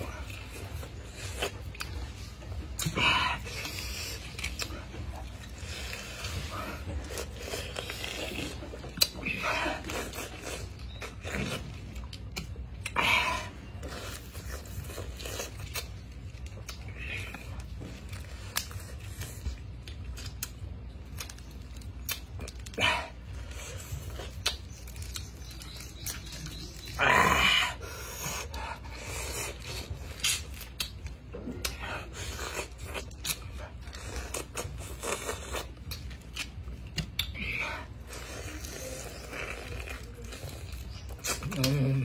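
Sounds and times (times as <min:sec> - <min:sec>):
man chewing crunchy fruit: 0:00.0 - 0:42.0.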